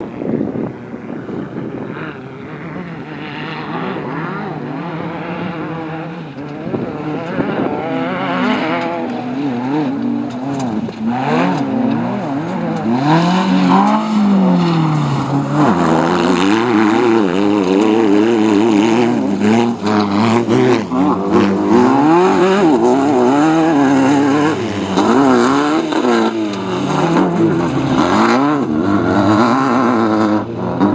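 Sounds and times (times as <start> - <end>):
race car engine revving: 0.0 - 30.9.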